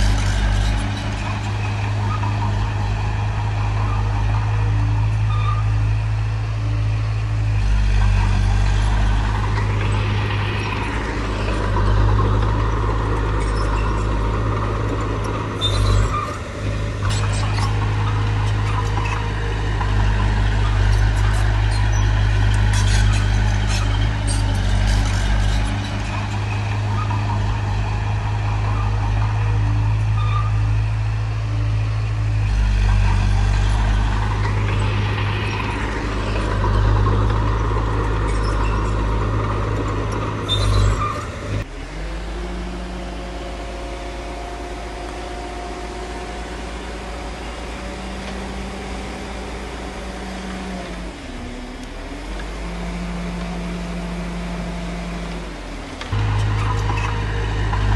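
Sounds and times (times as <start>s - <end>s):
diesel earthmoving machinery running: 0.0s - 57.9s.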